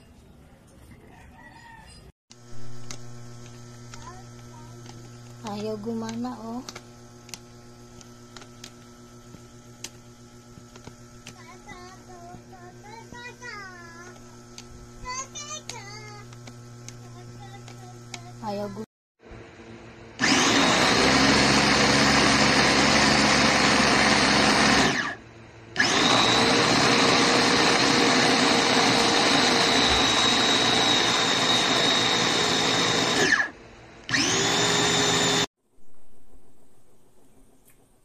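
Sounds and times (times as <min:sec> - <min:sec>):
electric food chopper running: 0:02.3 - 0:35.5.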